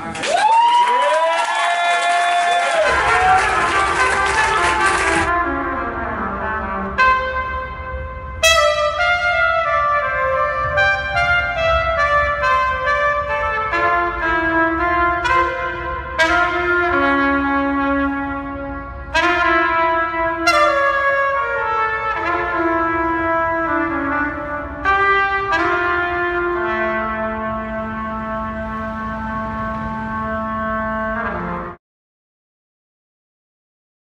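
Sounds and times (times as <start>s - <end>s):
brass melody music: 2.7s - 31.8s.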